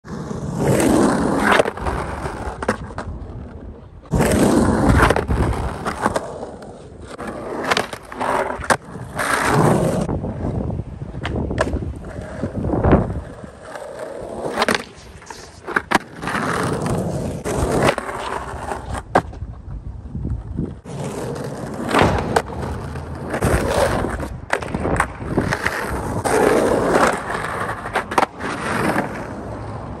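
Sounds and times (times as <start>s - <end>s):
skateboard trucks scraping concrete: 0.0s - 30.0s
skateboard wheels rolling on asphalt: 0.0s - 30.0s
skateboard clacking: 1.3s - 10.3s, 11.0s - 30.0s.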